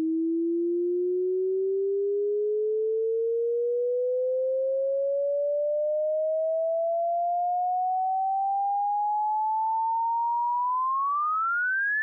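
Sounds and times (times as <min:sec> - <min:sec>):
rising sine tone sweep: 0:00.0 - 0:12.0.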